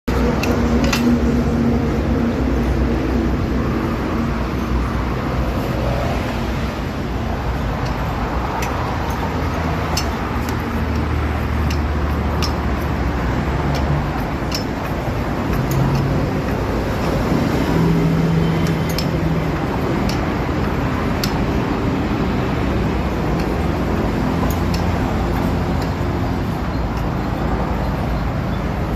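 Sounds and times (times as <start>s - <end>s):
road traffic noise: 0.0s - 28.9s
vehicle engines humming: 0.0s - 28.9s.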